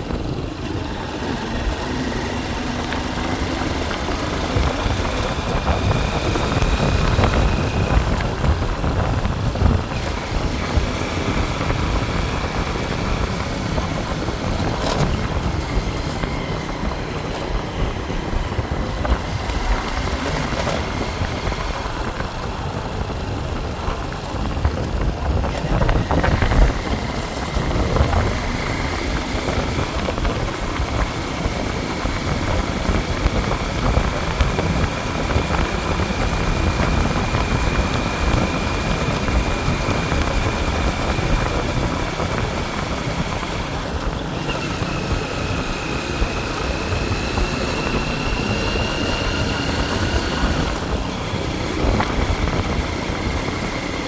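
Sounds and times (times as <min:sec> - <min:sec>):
motor running with whine: 0:00.0 - 0:54.0.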